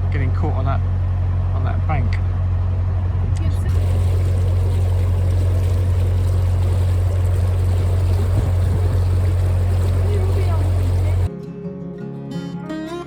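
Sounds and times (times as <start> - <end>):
boat diesel engine droning: 0.0 - 11.3.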